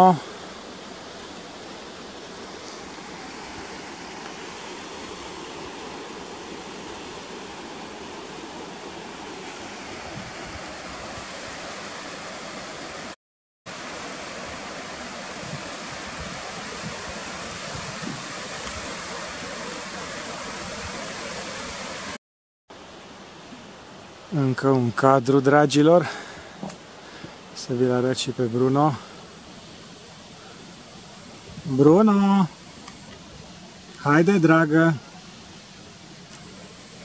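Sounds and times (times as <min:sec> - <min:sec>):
rushing mountain stream: 0:00.0 - 0:37.0.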